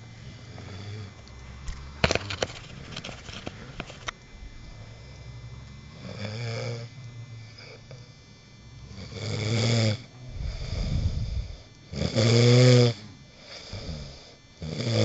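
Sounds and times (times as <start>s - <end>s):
person snoring: 0.0s - 2.2s, 4.6s - 8.2s, 8.8s - 15.0s.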